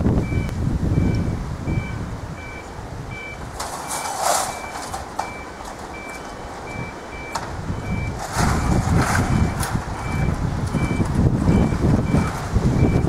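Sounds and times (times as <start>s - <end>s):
level crossing alarm beeps: 0.2s - 13.0s.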